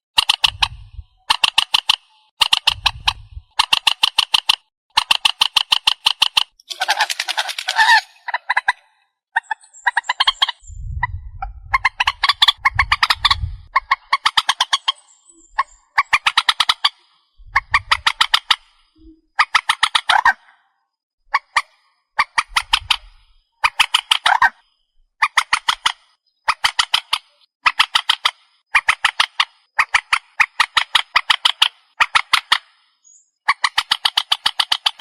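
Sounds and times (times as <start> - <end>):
swamphen harsh clucking calls: 0.2 - 20.5, 21.3 - 24.6, 25.2 - 32.7, 33.5 - 35.0.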